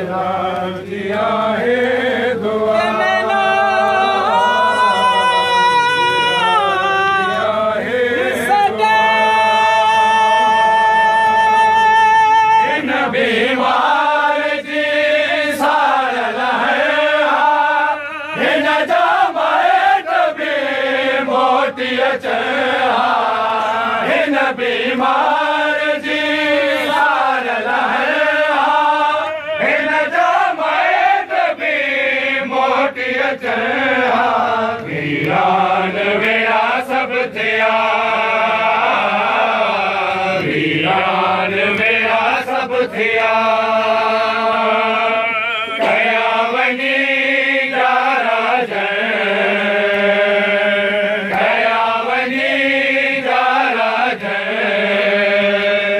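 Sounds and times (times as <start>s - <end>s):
voices chanting a lament: 0.0s - 55.9s.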